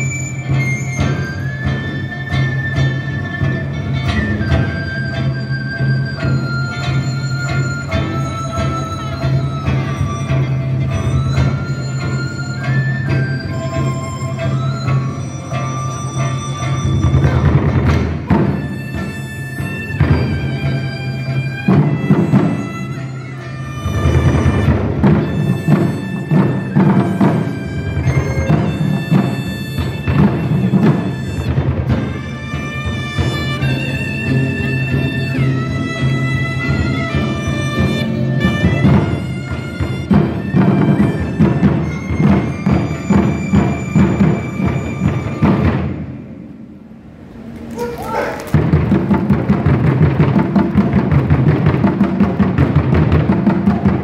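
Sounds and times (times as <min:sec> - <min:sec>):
bamboo flutes playing melody: 0:00.0 - 0:46.6, 0:47.4 - 0:54.0
drum strokes: 0:00.0 - 0:54.0.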